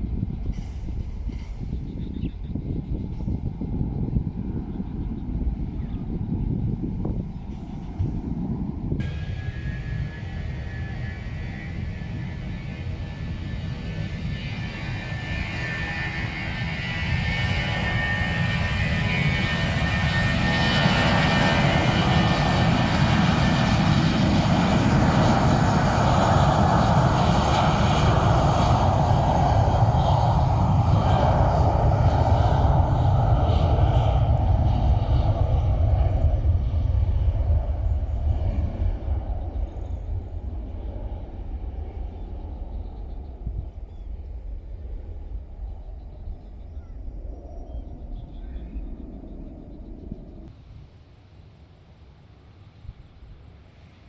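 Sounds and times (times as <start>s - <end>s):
jet engines roaring past: 0.0s - 50.6s.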